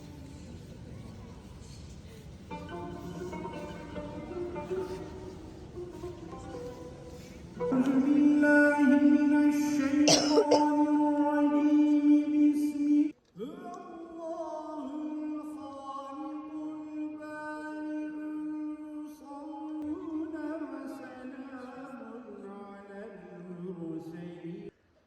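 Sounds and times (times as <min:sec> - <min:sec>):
wavering chant-like melody: 0:02.5 - 0:24.7.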